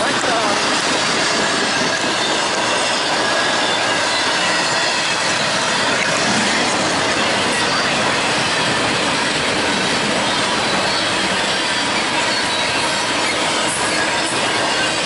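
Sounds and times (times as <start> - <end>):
high wheel squealing: 0.0 - 15.0
train wheels rolling on rail: 0.0 - 15.0.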